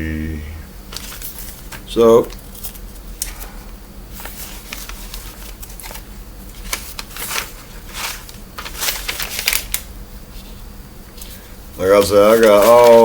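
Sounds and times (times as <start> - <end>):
paper rustling and crinkling: 0.9 - 3.5, 4.1 - 10.6, 11.2 - 13.0.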